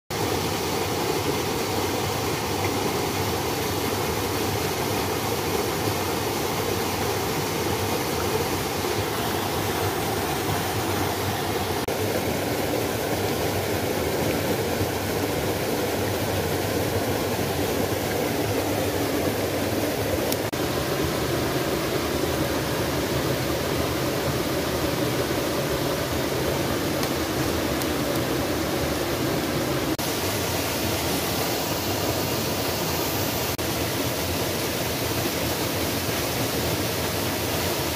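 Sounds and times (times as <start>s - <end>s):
waterfall splashing: 0.1s - 37.9s.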